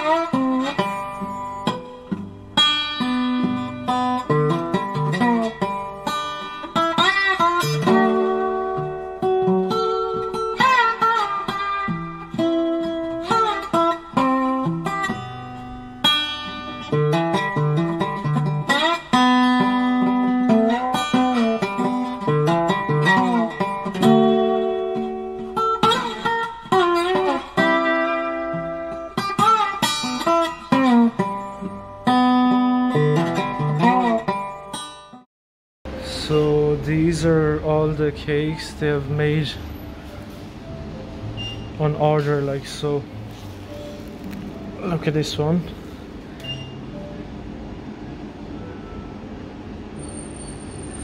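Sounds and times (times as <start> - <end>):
plucked guitar piece: 0.0 - 35.2, 35.9 - 49.0.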